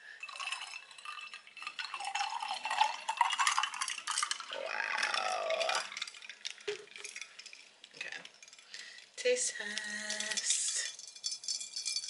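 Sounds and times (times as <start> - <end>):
spoon clinking ice in a glass: 0.2 - 7.7, 9.6 - 12.0.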